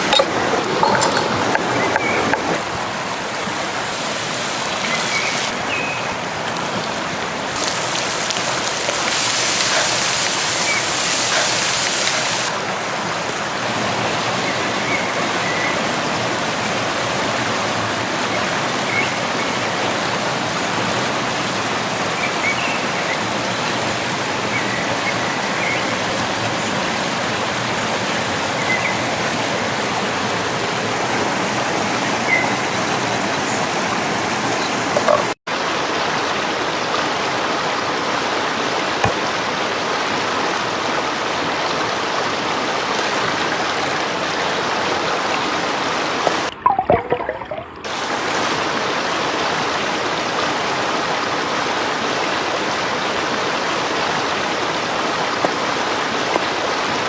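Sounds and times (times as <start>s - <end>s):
stream of running water: 0.0s - 57.0s.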